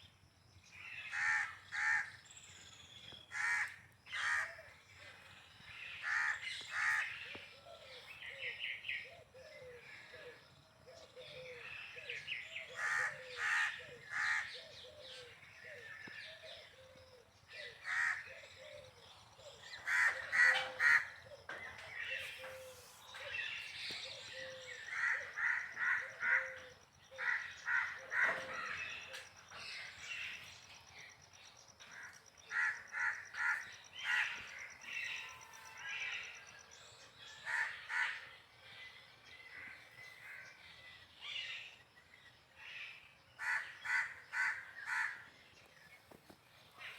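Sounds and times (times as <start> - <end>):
harsh bird calls: 0.8 - 41.9, 42.5 - 46.9.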